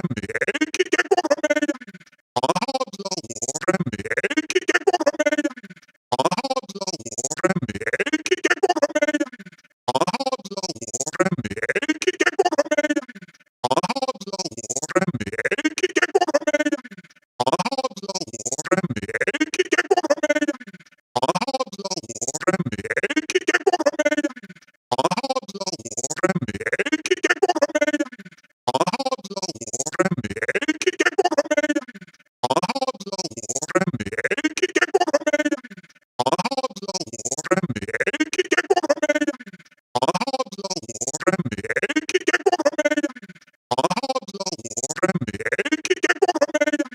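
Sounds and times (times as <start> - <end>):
stuttering robotic voice: 0.0 - 46.9.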